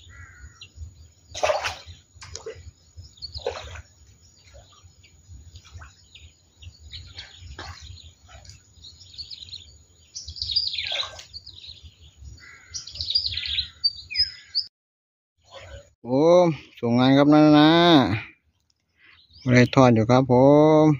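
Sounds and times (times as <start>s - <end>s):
birds chirping: 0.0s - 14.7s, 15.4s - 20.9s.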